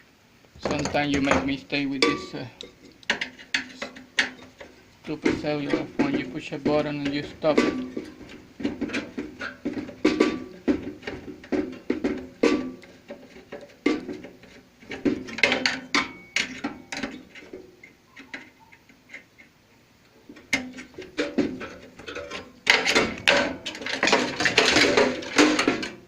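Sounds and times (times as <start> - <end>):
metal parts and tools clanking: 0.6 - 19.3, 20.4 - 26.0.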